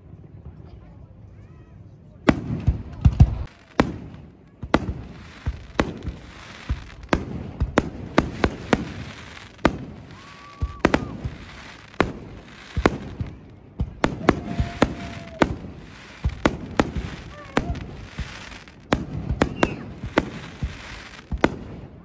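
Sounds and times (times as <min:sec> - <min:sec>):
fireworks bangs: 0:02.2 - 0:22.0
hissing haze: 0:03.4 - 0:21.8.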